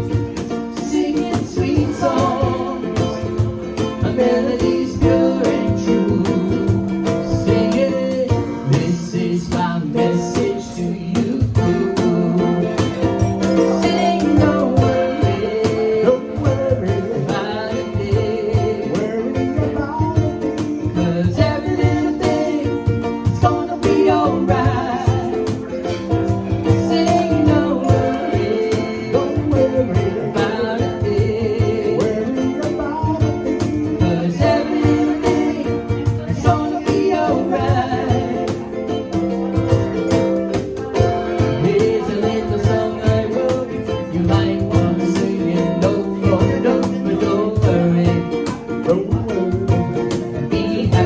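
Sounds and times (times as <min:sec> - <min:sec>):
guitar: 0:00.0 - 0:51.0
person singing: 0:00.0 - 0:51.0
steady beat: 0:00.0 - 0:51.0.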